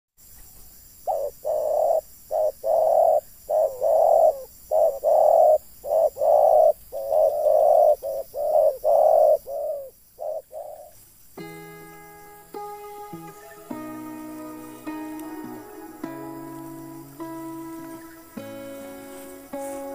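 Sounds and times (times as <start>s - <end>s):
dove cooing: 1.1s - 11.0s, 13.2s - 19.9s.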